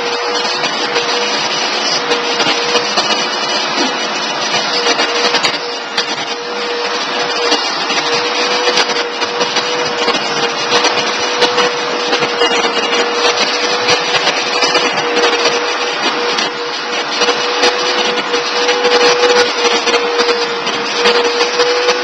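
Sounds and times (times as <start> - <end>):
vacuum cleaner whining: 0.0 - 22.0
nozzle rubbing on fur: 0.2 - 22.0.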